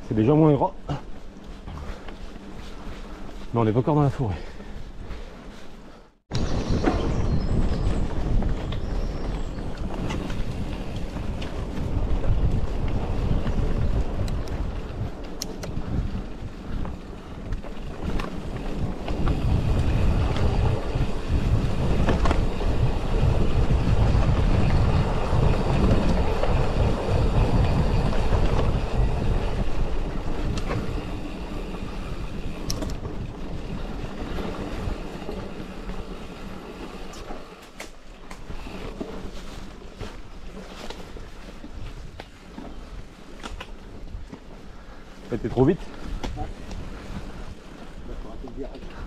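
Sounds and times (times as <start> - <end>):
wind buffeting microphone: 6.3 - 37.2, 38.4 - 49.0
tyres rolling over dirt: 6.4 - 49.0.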